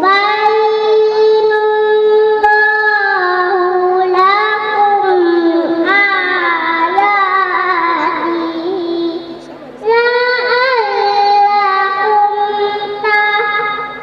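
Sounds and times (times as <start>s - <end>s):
child chanting recitation: 0.0s - 14.0s.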